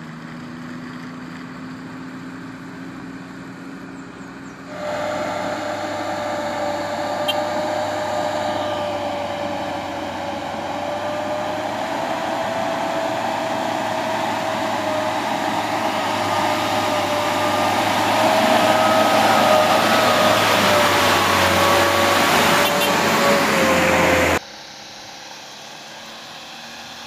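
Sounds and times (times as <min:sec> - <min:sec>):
truck engine whine on gravel: 0:00.0 - 0:27.0.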